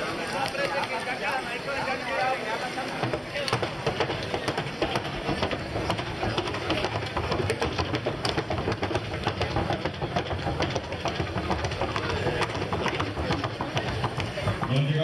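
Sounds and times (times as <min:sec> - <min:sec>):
horse hooves clattering rapidly: 0:00.0 - 0:15.0.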